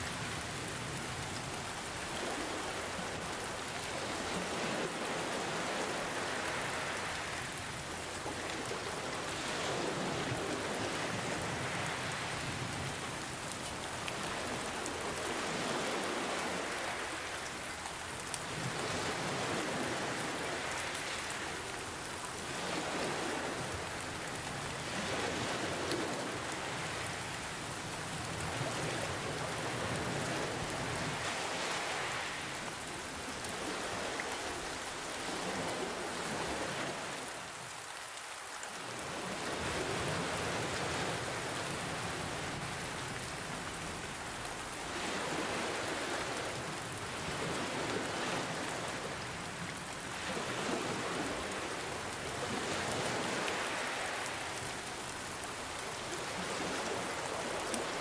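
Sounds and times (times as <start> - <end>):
ocean waves washing in: 0.0 - 37.9, 38.8 - 58.0
rain hiss: 0.0 - 58.0.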